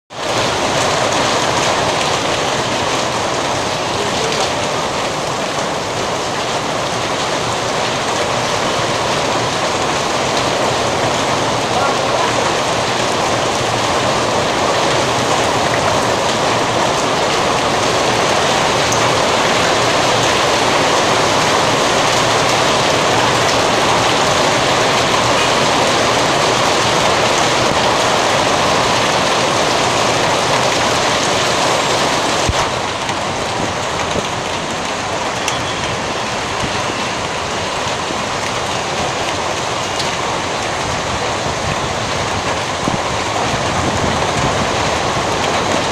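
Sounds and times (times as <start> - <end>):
heavy hail and rain pelting: 0.1 - 45.9.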